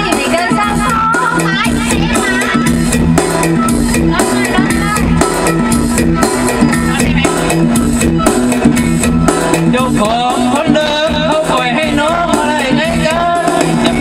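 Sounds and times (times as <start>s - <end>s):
upbeat dance music: 0.0s - 14.0s.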